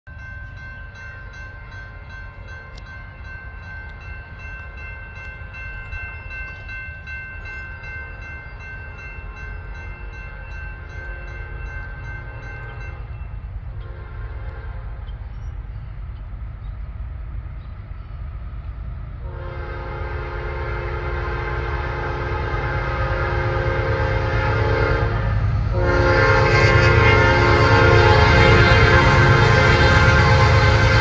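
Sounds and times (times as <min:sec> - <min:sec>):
freight train rumble: 0:00.0 - 0:31.0
crossing warning tones: 0:00.1 - 0:18.4, 0:19.3 - 0:31.0.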